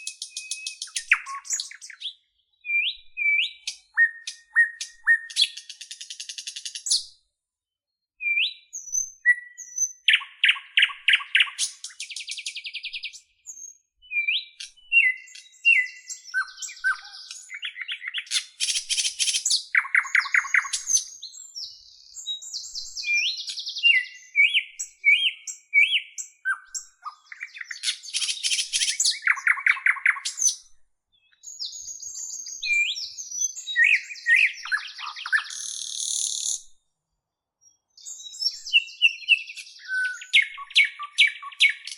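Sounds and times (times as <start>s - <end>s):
bird singing trills and chirps: 0.0s - 7.2s, 8.2s - 36.8s, 37.6s - 41.9s.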